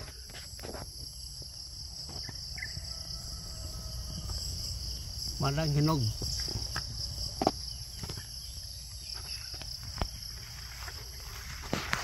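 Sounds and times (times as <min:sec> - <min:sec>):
insects shrilling: 0:00.0 - 0:12.0.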